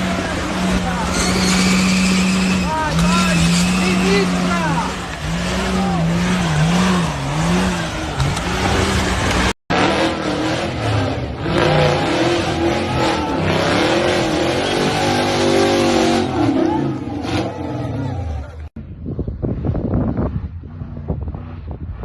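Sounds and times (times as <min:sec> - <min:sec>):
off-road vehicle engines revving: 0:00.0 - 0:18.8.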